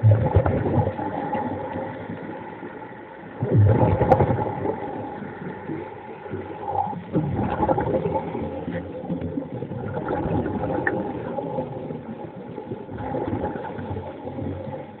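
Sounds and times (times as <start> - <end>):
muffled underwater hum: 0.0 - 15.0
rush of water: 0.0 - 15.0
underwater crackle: 0.0 - 15.0.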